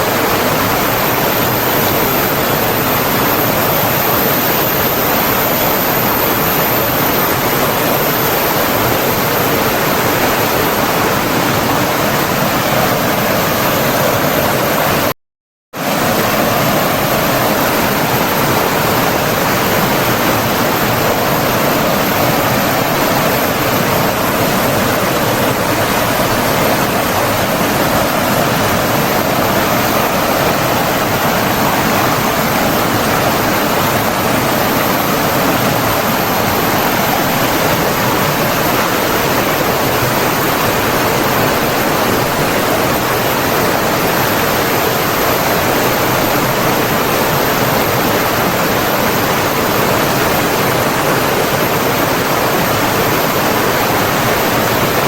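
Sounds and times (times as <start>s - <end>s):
running water rushing: 0.0s - 15.1s, 15.8s - 55.0s.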